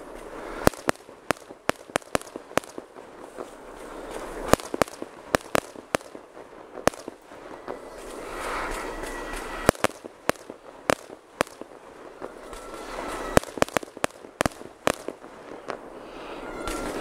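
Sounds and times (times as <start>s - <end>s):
fireworks cracking and popping: 0.0s - 17.0s.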